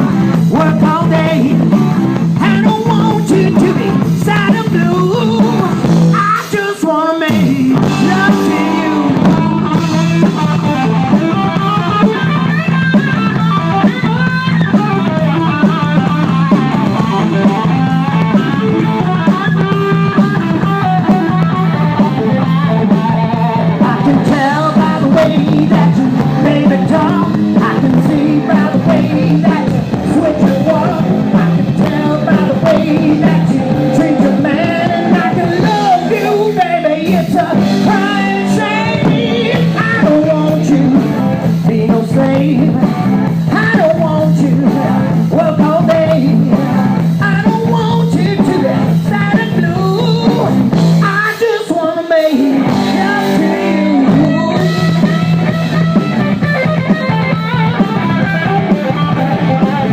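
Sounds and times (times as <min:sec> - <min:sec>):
person singing: 0:00.0 - 0:12.9, 0:13.6 - 0:59.9
live rock band playing: 0:00.0 - 0:59.9.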